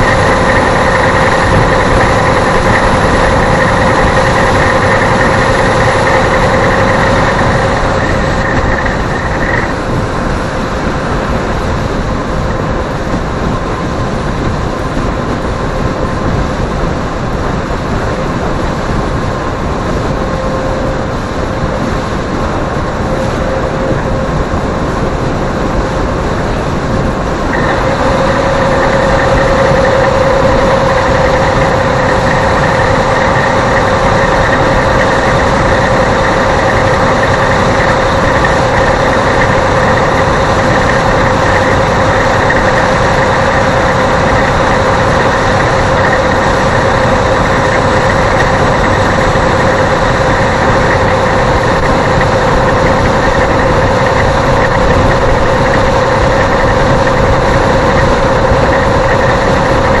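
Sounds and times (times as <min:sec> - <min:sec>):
constant hum: 0:00.0 - 1:00.0
engine drone and road noise: 0:00.0 - 1:00.0.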